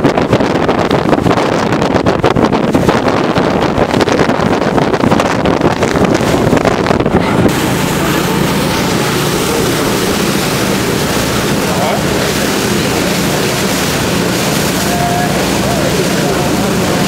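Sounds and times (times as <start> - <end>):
boat engine drone: 0.0 - 17.0
rush of wind and water: 0.0 - 17.0
wind buffeting microphone: 0.0 - 17.0.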